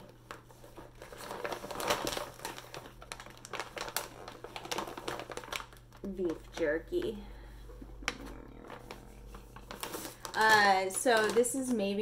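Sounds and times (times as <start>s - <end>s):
plastic pouch crinkling: 0.0s - 7.2s, 8.0s - 12.0s.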